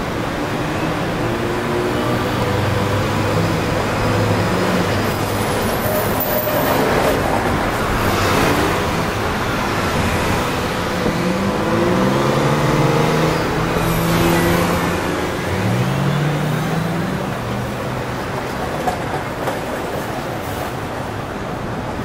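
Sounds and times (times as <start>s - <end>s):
bus engine pulling away: 0.0s - 18.5s
buses passing close by: 0.0s - 22.0s
busy street traffic: 0.0s - 22.0s.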